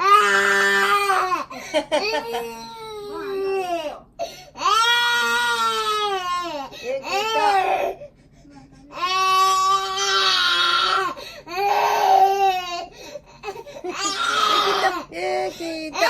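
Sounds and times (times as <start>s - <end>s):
baby crying: 0.0s - 8.0s, 8.9s - 16.0s.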